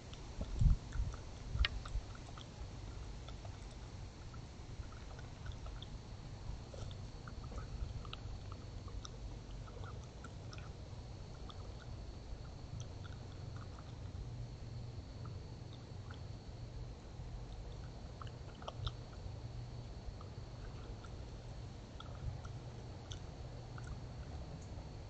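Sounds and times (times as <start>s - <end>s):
faint high-pitched whine: 0.0s - 25.0s
steady low rumble: 0.0s - 25.0s.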